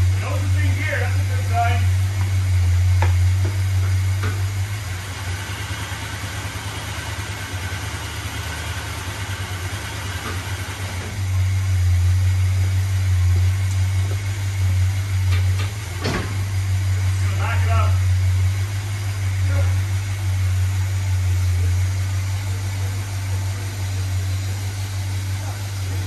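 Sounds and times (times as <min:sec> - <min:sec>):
pickup truck engine idling: 0:00.0 - 0:26.0.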